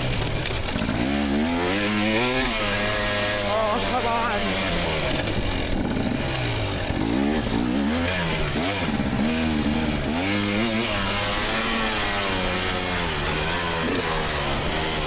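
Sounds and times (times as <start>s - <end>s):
two-stroke dirt bike engine revving: 0.0s - 15.0s.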